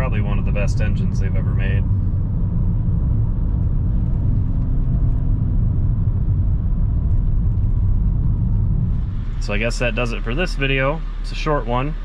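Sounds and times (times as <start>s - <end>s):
car engine running smoothly: 0.0s - 12.0s
road and tyre noise: 0.0s - 12.0s.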